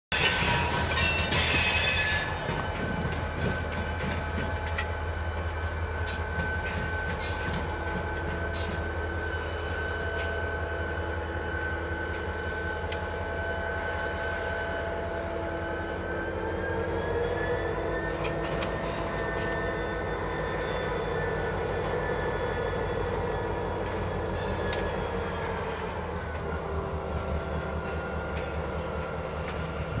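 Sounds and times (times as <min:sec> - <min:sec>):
locomotive engine rumble and whine: 0:00.1 - 0:30.0.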